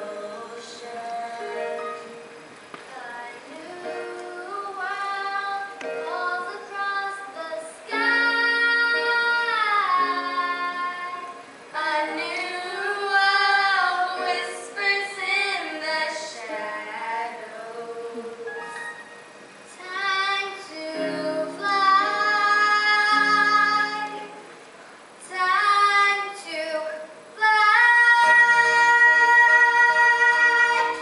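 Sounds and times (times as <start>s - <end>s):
girls singing: 2.8s - 18.5s, 19.7s - 24.4s, 25.2s - 31.0s.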